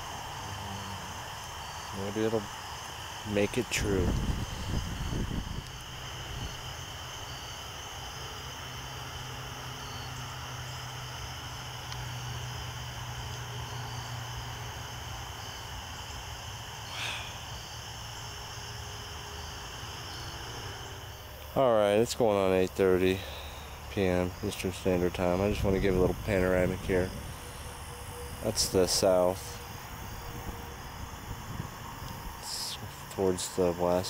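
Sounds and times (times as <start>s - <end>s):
crickets and insects chirring: 0.0s - 34.0s
insect pulsing trill: 0.0s - 34.0s
low steady hum: 0.0s - 34.0s.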